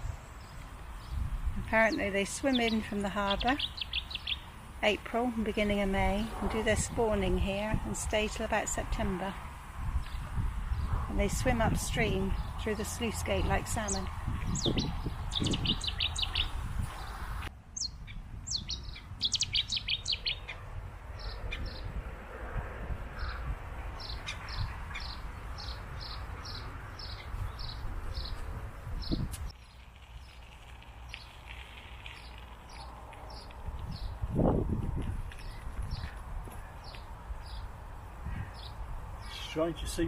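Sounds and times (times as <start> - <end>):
small birds singing: 0.0 - 22.0, 23.2 - 30.4, 32.0 - 40.0.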